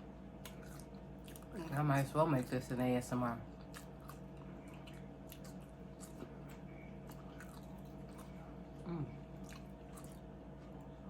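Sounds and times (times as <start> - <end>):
person chewing food: 0.3 - 1.8, 3.5 - 11.0.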